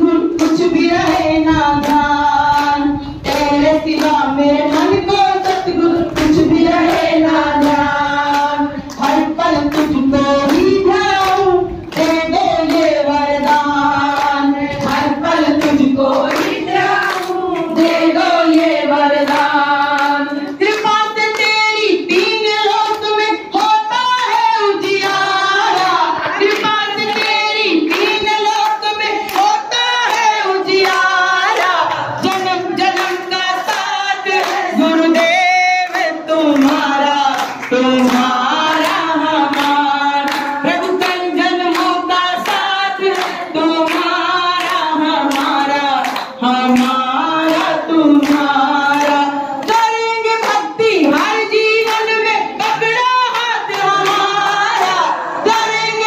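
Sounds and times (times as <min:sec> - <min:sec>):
rhythmic hand clapping: 0:00.0 - 0:56.0
women singing devotional song: 0:00.0 - 0:56.0.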